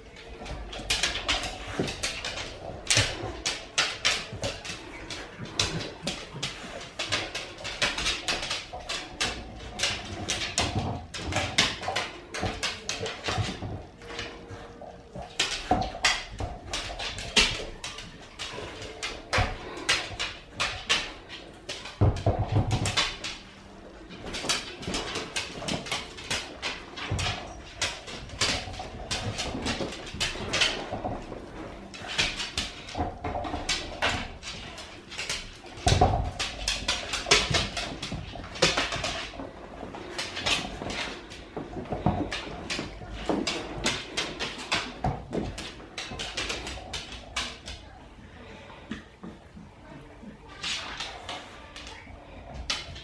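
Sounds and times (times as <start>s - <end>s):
rubber toy rolling on wooden floor: 0.0s - 53.0s.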